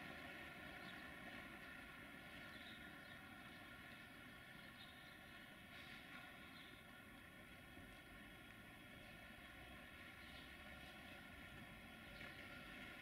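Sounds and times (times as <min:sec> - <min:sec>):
electric locomotive rolling: 0:00.0 - 0:13.0.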